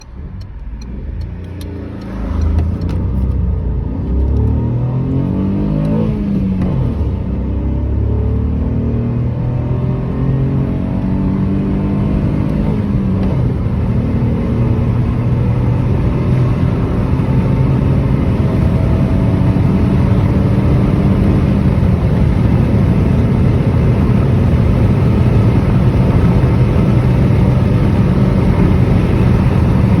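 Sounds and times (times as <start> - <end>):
car engine accelerating: 0.0 - 30.0
road and wind noise: 0.0 - 30.0.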